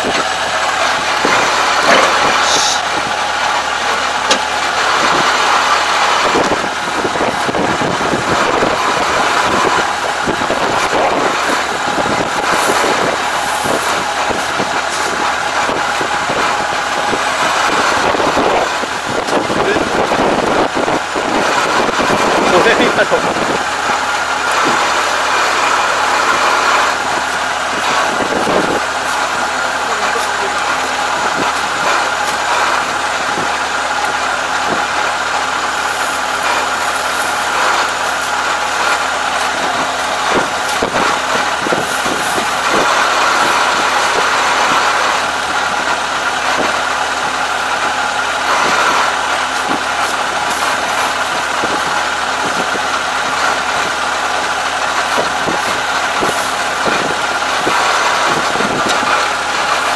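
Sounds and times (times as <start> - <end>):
harvester engine idling: 0.0 - 59.9.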